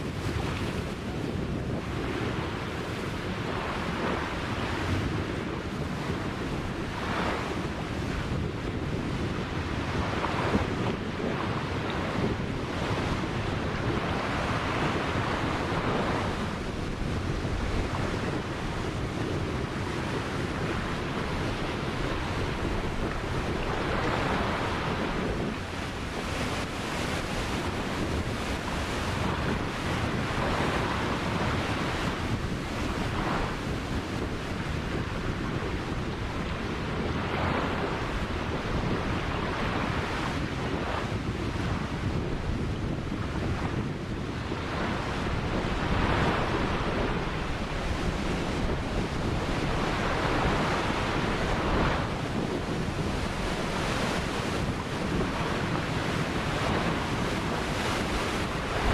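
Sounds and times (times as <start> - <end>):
ocean waves breaking on shore: 0.0 - 58.9
wind rumble on microphone: 0.0 - 58.9.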